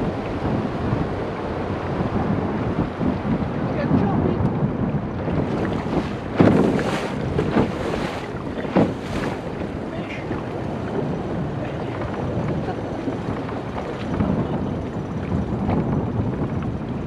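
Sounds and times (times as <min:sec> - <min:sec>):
outboard motor running: 0:00.0 - 0:17.0
wind buffeting microphone: 0:00.0 - 0:17.0.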